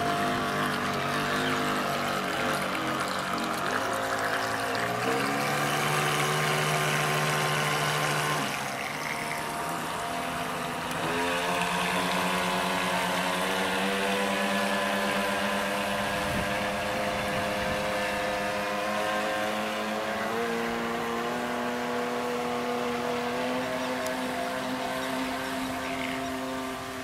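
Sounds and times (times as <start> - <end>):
electric motors whining: 0.0 - 27.0
water rushing: 0.0 - 27.0.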